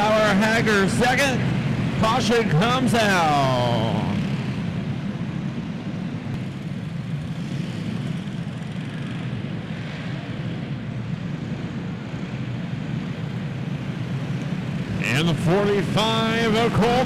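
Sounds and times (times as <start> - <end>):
racing kart engines running: 0.0 - 17.0.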